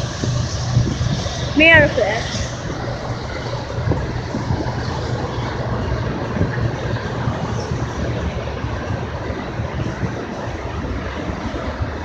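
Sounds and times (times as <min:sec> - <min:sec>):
freight train passing: 0:00.0 - 0:12.0.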